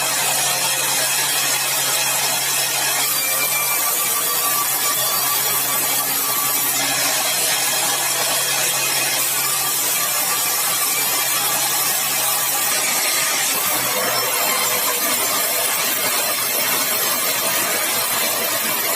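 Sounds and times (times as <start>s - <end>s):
saw cutting through log: 0.0s - 18.9s
saw motor hum: 0.0s - 18.9s.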